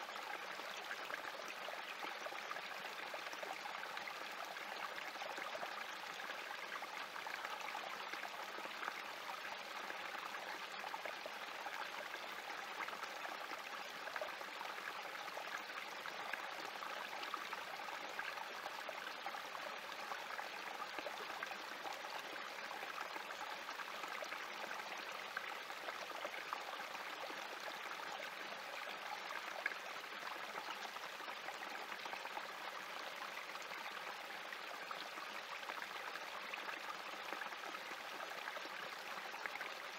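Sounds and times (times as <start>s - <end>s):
creek trickling over rocks: 0.0s - 39.9s.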